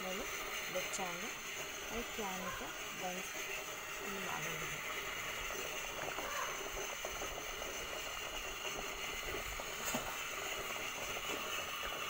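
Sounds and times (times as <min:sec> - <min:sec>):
hot oil sizzling: 0:00.0 - 0:12.0
oil popping: 0:00.0 - 0:12.0.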